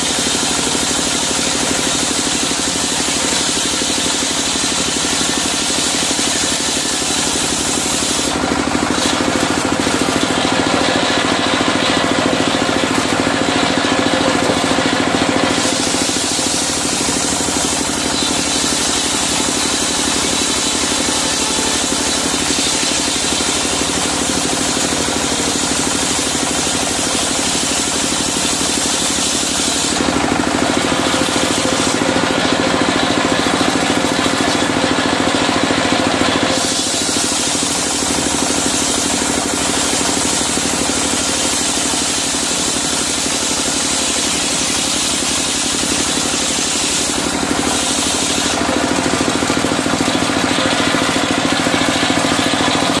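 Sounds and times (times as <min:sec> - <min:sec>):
circular saw blade cutting wood: 0:00.0 - 0:53.0
diesel engine chugging: 0:04.5 - 0:53.0.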